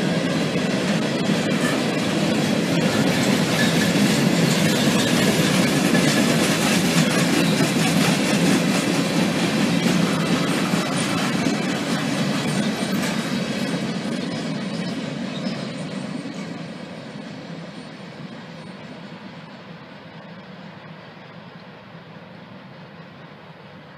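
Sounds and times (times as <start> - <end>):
train wheels clattering on track: 0.0 - 23.9.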